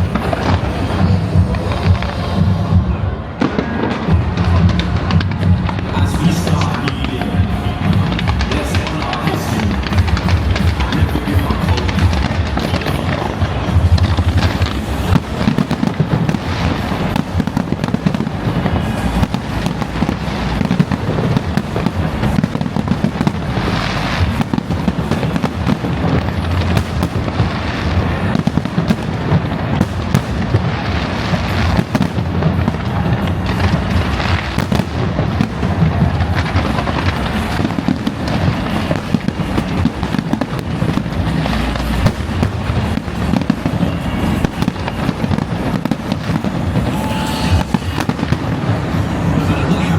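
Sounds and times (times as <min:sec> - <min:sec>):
fireworks booming and crackling: 0:00.0 - 0:49.9.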